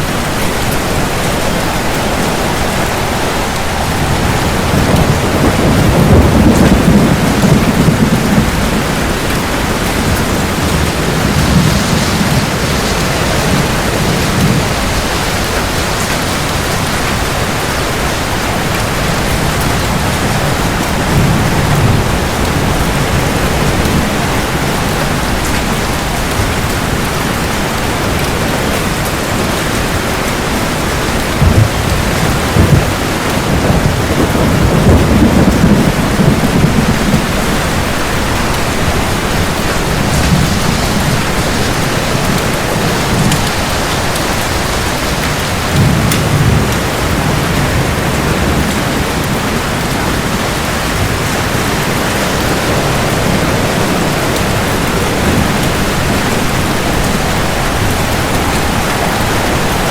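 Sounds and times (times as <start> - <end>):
heavy rain falling: 0.0 - 59.9
thunder rumbling: 0.0 - 59.9.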